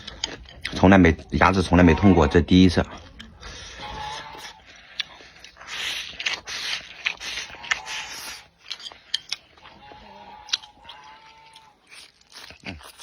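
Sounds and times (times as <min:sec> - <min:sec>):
wet chewing and mouth noises: 0:00.0 - 0:13.0.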